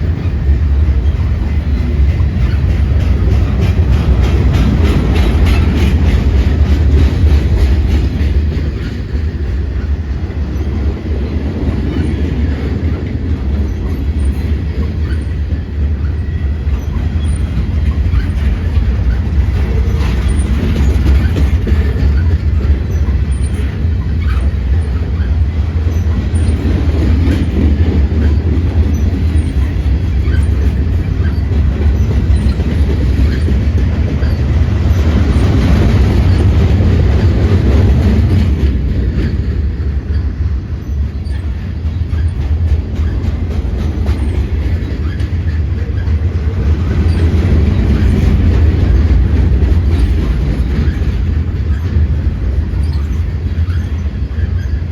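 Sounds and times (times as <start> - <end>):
steel wheels rumbling on rail: 0.0 - 54.9.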